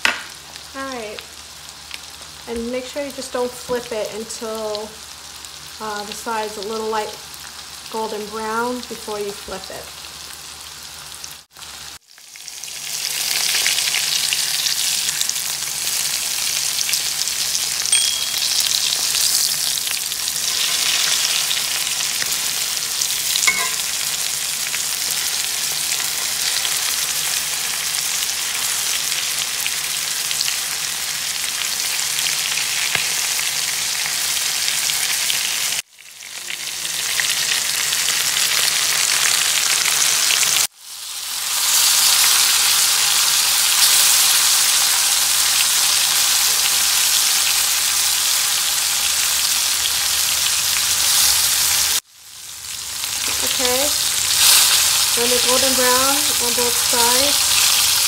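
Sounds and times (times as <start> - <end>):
chicken sizzling in a skillet: 0.0 - 58.0.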